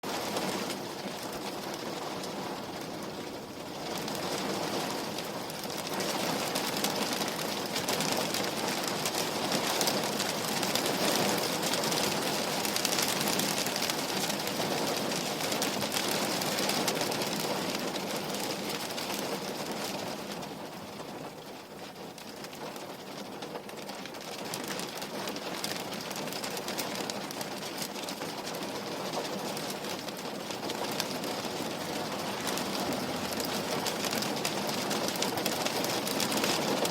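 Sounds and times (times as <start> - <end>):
rain on a window: 0.0 - 36.9.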